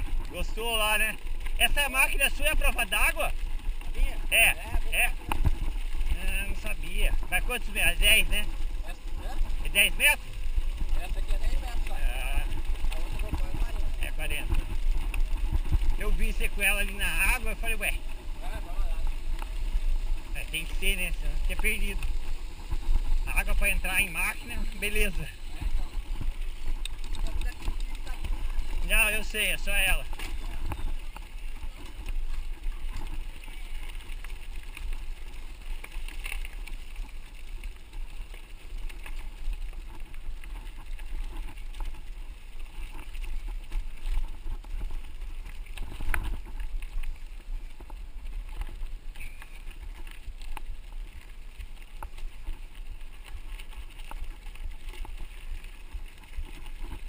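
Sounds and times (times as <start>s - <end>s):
bike rattling and clicking: 0.0s - 57.0s
bike tyres rumbling on gravel: 0.0s - 57.0s.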